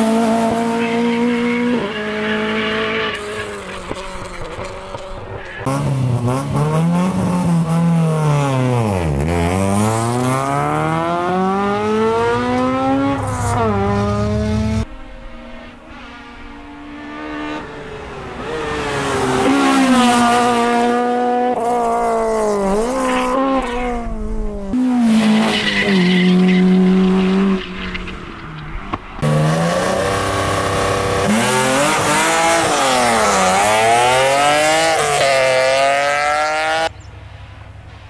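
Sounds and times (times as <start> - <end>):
rally car engines revving past: 0.0 - 37.0.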